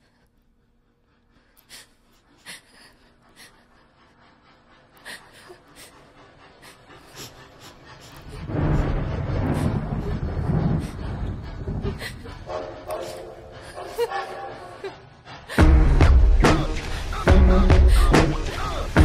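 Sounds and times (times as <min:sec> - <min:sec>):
train rumble and hiss: 0:01.0 - 0:19.0
steam locomotive chuffing: 0:02.4 - 0:19.0.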